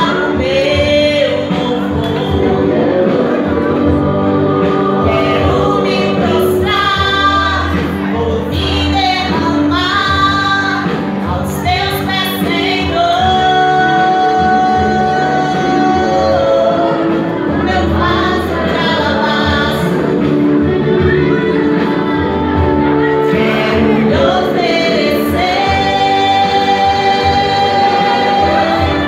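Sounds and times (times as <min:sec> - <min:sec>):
woman singing into microphone: 0:00.0 - 0:29.0.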